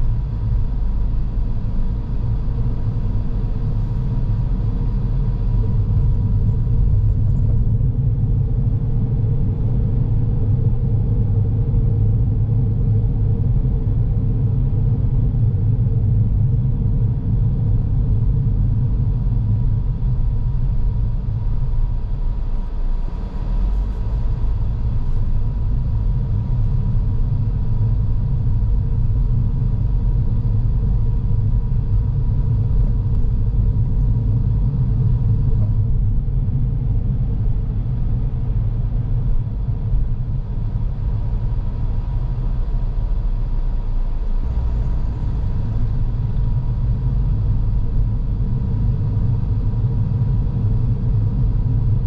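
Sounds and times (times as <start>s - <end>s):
engine and tyre rumble: 0.0s - 52.0s.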